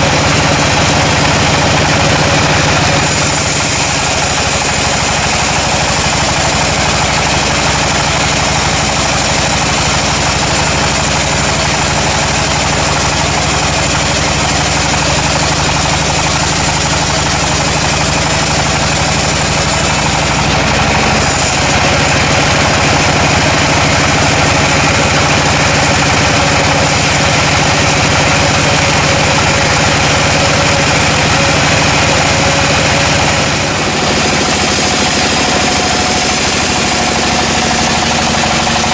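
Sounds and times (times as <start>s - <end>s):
engine drone and hiss: 0.0s - 38.9s.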